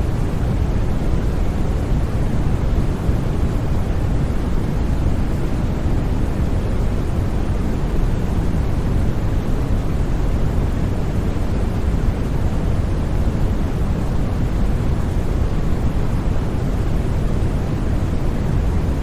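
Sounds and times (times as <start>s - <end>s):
low white noise: 0.0s - 19.0s.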